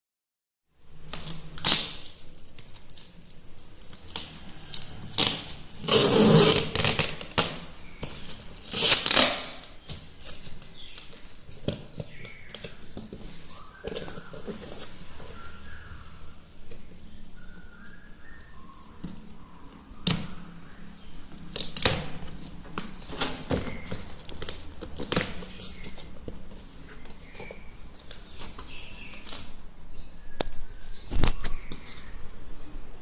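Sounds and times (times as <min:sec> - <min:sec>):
packaging rustling and scraping: 0:00.8 - 0:32.4.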